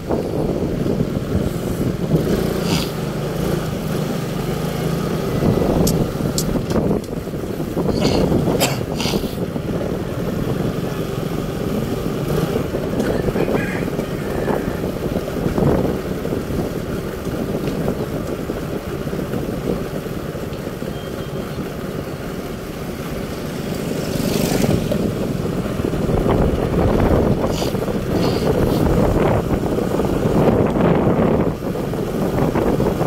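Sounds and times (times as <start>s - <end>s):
rushing noise of moving vehicle: 0.0s - 33.0s
vehicle engine rumble: 0.0s - 33.0s.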